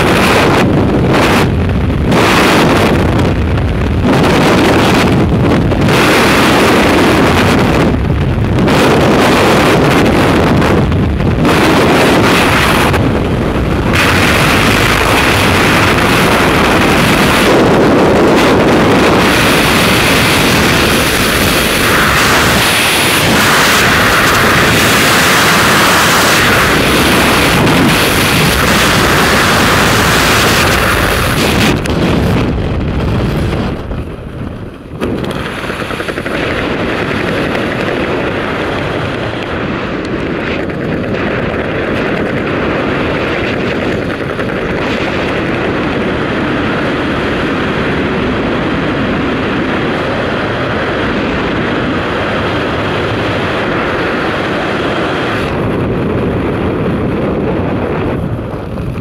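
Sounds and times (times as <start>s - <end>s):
wind roaring over microphone: 0.0s - 59.0s.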